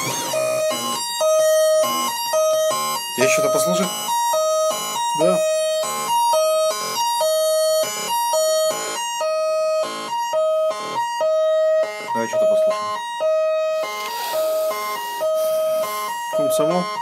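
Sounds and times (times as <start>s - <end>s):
synthesizer note sequence: 0.0s - 16.9s.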